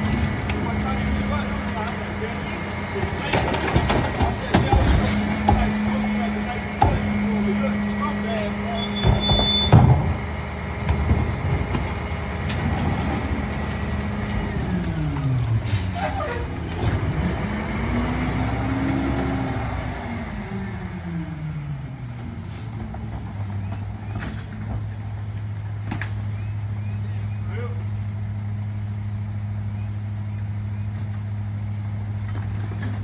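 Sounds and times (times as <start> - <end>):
garbage truck diesel engine: 0.0 - 33.0.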